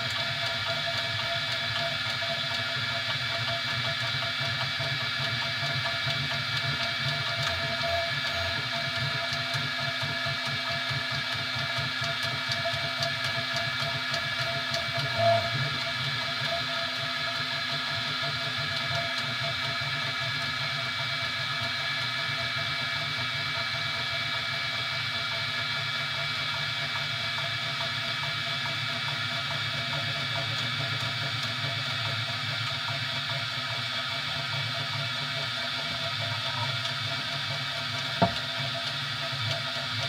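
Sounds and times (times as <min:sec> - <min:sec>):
printer motors and fans humming: 0:00.0 - 0:40.0.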